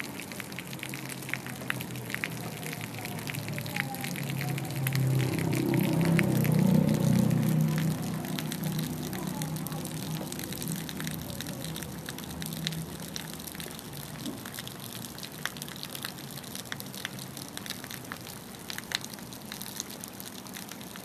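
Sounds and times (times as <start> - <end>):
drops ticking close by: 0.0 - 21.0
rain falling: 0.0 - 21.0.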